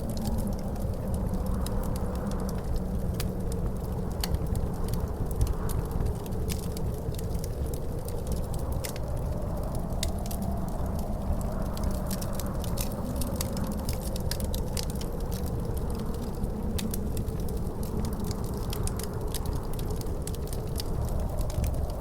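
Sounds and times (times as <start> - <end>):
low wind roar: 0.0 - 22.0
wood fire crackling and popping: 0.0 - 22.0.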